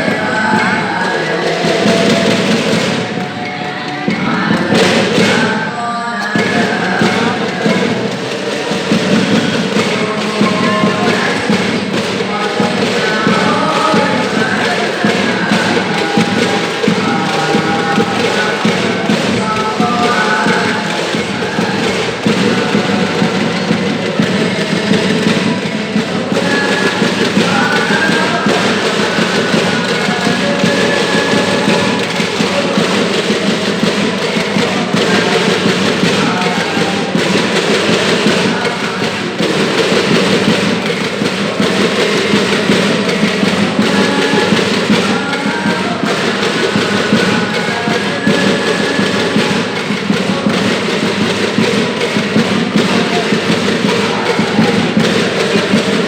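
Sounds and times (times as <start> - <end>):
music with busy percussion: 0.0 - 56.0.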